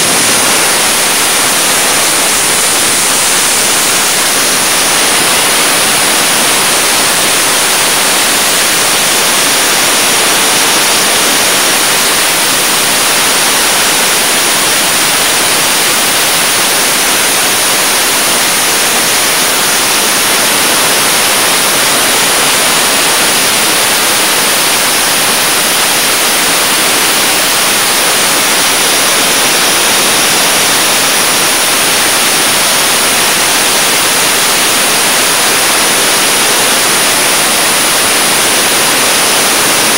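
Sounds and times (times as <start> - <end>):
abrasive blasting nozzle hissing: 0.0 - 39.9.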